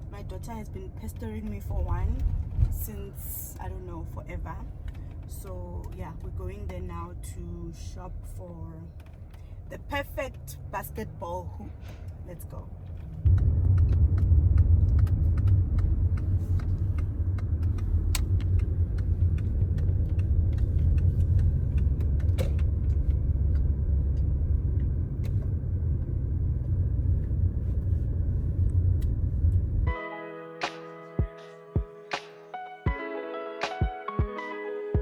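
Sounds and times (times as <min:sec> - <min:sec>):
car rumbling on the move: 0:00.0 - 0:29.9.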